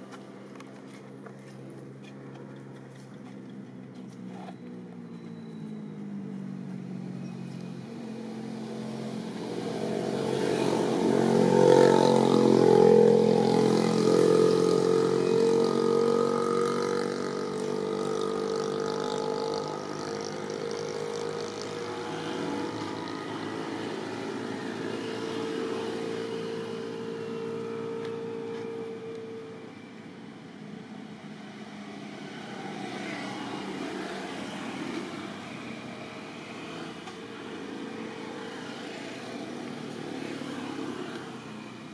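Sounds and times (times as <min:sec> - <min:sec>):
passing engine drone: 0:05.2 - 0:41.9.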